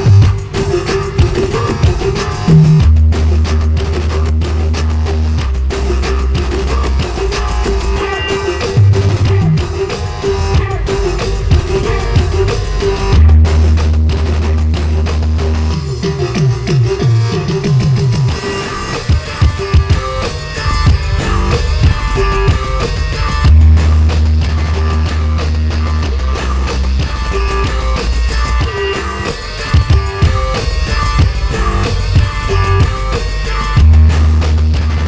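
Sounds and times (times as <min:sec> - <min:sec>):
loud music with heavy bass: 0:00.0 - 0:35.0.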